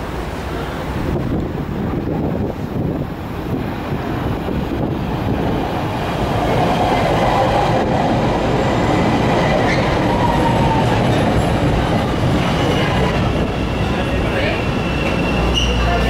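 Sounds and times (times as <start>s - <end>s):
train rail rumble: 0.0s - 16.0s.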